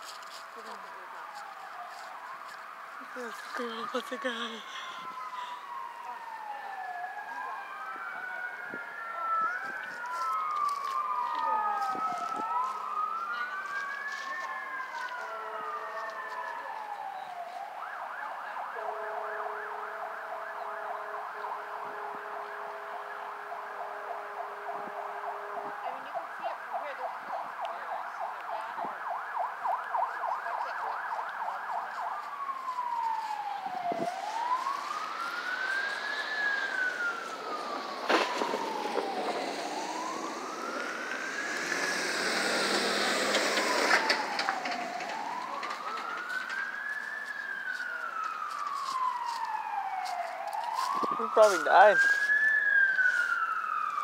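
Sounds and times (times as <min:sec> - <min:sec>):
sirens wailing: 0:00.0 - 0:54.0
siren fast yelp: 0:00.3 - 0:54.0.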